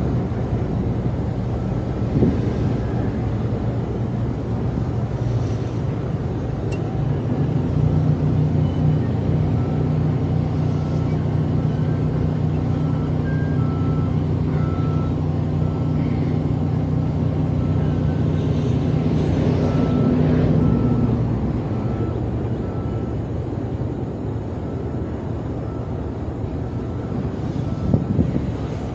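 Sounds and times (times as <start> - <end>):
large engine droning: 0.0 - 28.9.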